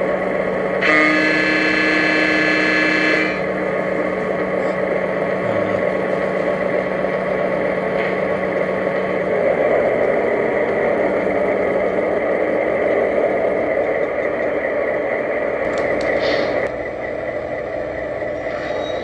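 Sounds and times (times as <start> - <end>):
model locomotive diesel rumble: 0.0 - 19.0.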